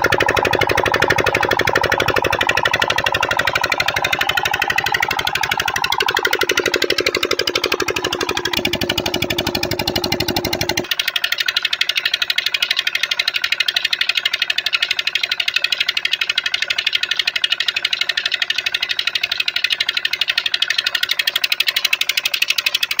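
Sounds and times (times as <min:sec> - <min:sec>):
diesel engine running a pump: 0:00.0 - 0:23.0.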